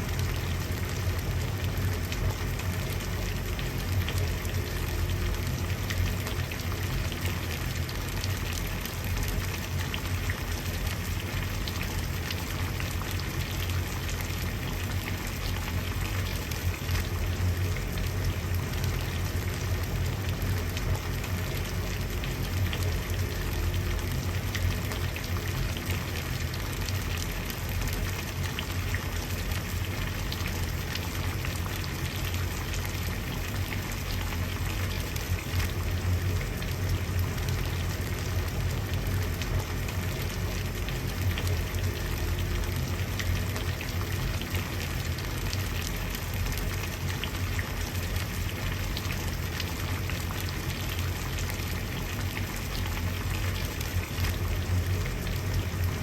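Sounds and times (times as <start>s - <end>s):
water boiling and bubbling: 0.0s - 56.0s.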